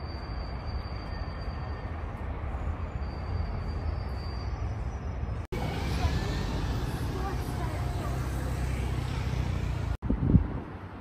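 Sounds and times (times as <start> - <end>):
outdoor noise: 0.0 - 11.0.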